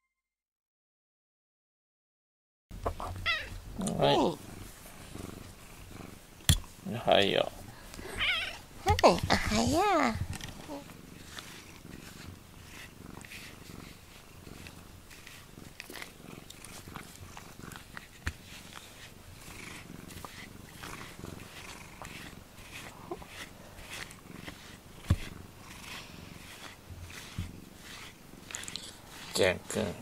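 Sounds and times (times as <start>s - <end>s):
cat purring: 2.8s - 30.0s
cat rubbing against microphone: 2.9s - 30.0s.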